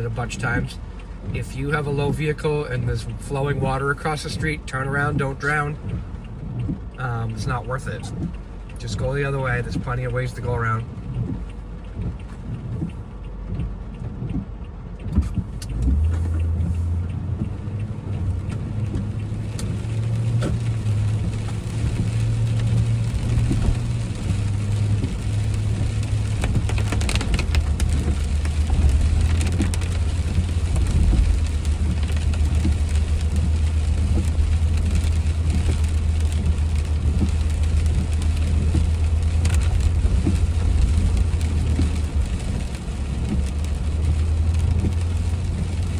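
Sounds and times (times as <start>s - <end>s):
car engine and road noise: 0.0s - 45.9s.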